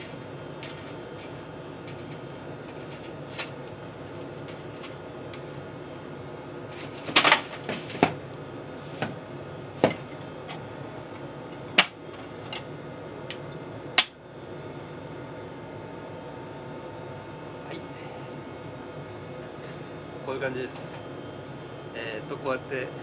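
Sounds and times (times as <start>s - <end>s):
steady cabin hum: 0.0s - 23.0s.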